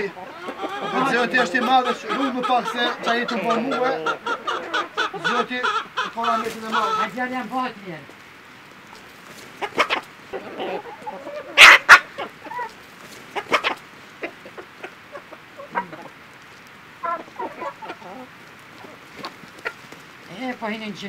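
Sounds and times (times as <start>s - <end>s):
hens and roosters clucking: 0.0s - 21.0s.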